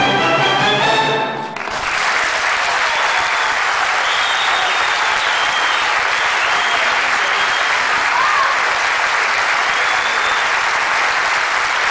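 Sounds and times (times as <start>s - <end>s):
audience applauding: 1.4s - 11.9s.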